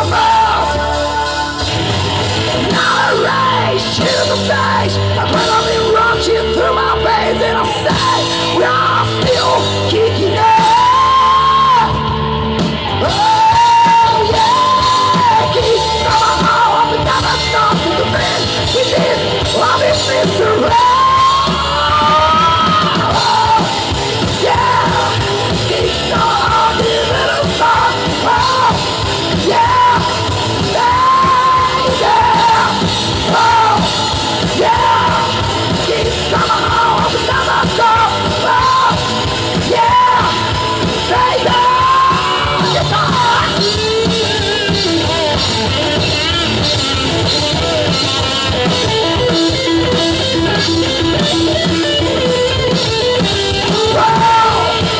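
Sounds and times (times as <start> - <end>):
live rock band: 0.0 - 54.9.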